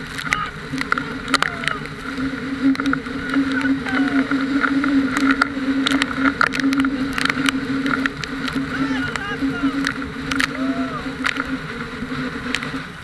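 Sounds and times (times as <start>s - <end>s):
motorboat engine drone: 0.0s - 13.0s
water splashing against boat: 0.0s - 13.0s.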